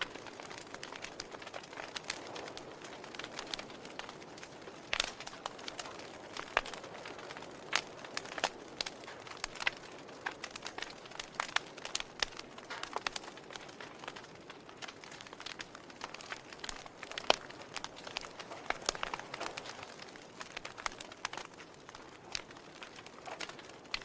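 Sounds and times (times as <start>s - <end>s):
fire crackling and popping: 0.0s - 24.0s
soft steady hiss: 0.0s - 24.0s.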